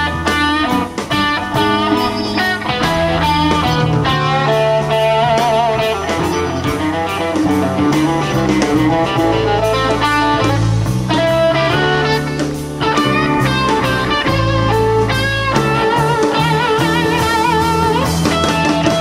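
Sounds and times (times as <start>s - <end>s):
bass and drums: 0.0s - 19.0s
electric guitar lead: 0.0s - 19.0s.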